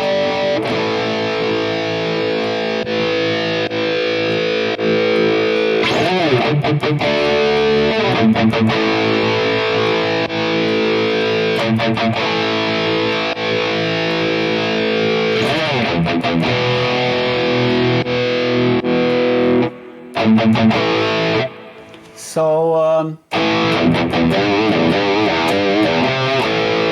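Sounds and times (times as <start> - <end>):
distorted electric guitar chords: 0.0 - 22.2, 23.3 - 26.9.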